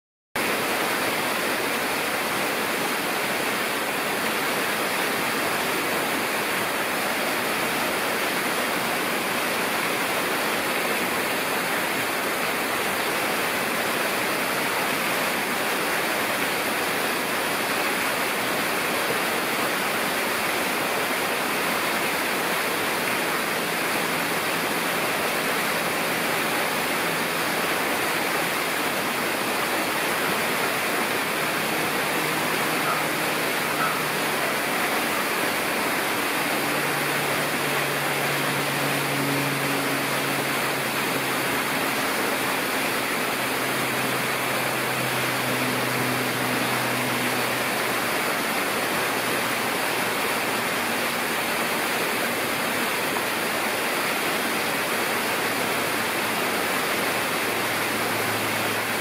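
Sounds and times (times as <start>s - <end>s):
rushing water: 0.4s - 59.0s.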